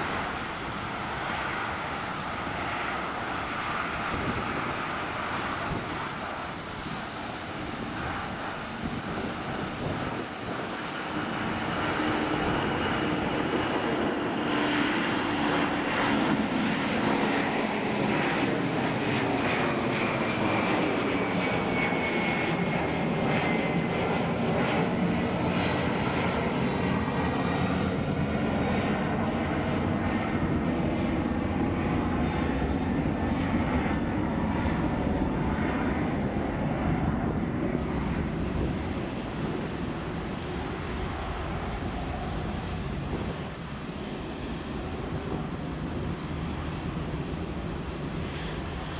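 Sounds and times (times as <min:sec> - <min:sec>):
jet engine rumble passing: 0:00.0 - 0:48.9.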